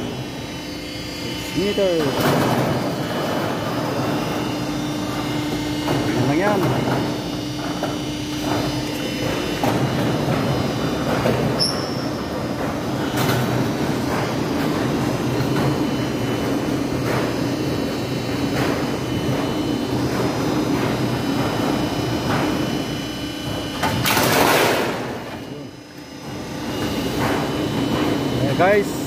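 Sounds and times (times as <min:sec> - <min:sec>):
roll-forming machine motor hum: 0:00.0 - 0:29.0.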